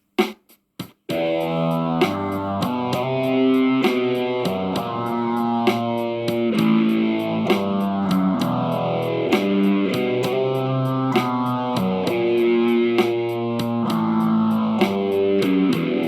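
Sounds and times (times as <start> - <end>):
ticking beat: 0.0 - 16.0
plucked guitar chords: 1.1 - 16.0.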